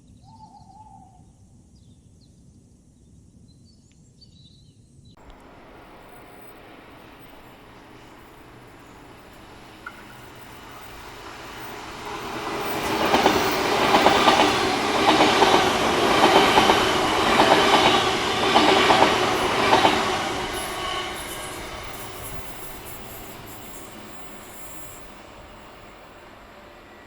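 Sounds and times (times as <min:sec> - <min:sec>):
train wheels clacking on rails: 0:05.2 - 0:27.0.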